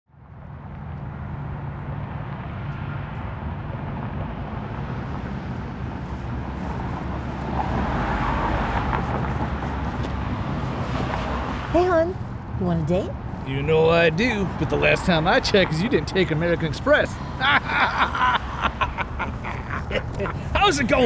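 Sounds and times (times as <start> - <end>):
road traffic rumble: 0.1 - 21.0.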